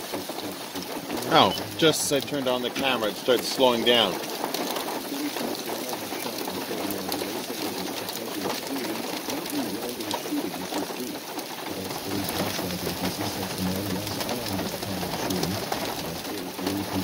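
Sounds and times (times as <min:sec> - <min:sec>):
rain and hail on pavement: 0:00.0 - 0:17.0.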